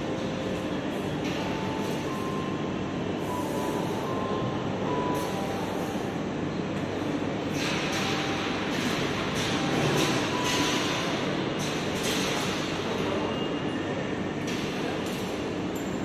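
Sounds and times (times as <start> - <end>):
loud steady background noise: 0.0 - 16.0.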